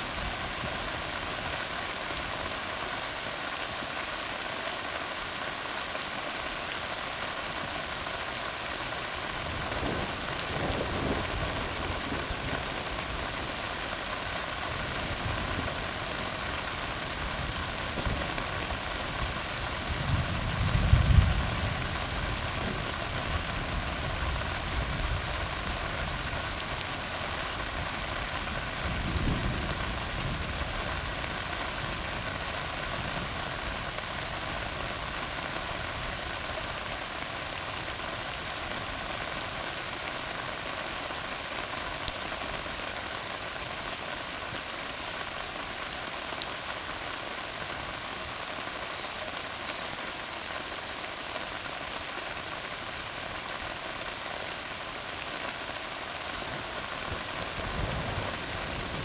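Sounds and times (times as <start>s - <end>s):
rain on asphalt: 0.0s - 59.0s.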